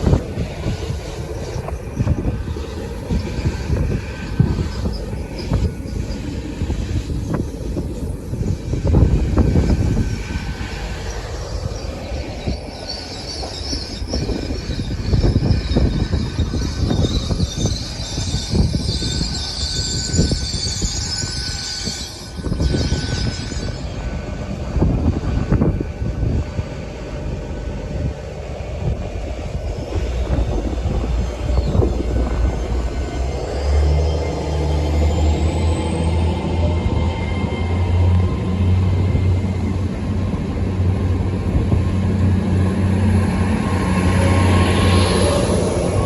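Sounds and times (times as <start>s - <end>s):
high metallic squeal: 0.0s - 46.0s
train rumbling on rails: 0.0s - 46.0s.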